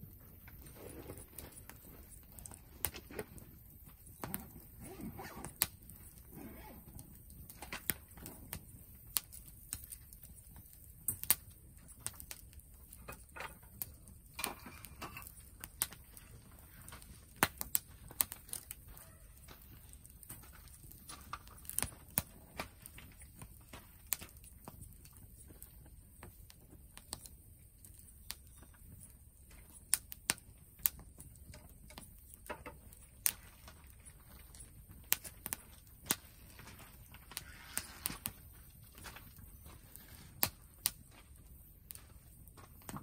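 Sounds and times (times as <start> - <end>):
firewood crackling and popping: 0.0 - 43.0.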